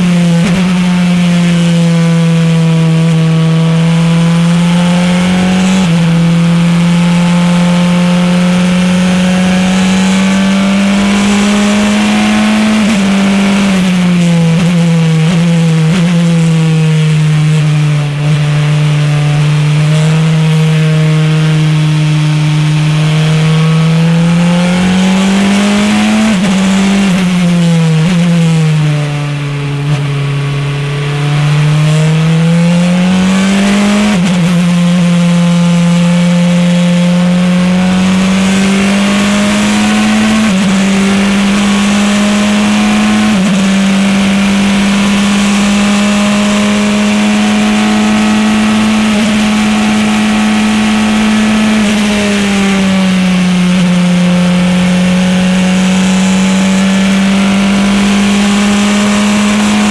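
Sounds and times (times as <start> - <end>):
quick gear upshifts: 0.0 - 59.9
race car engine accelerating: 0.0 - 59.9.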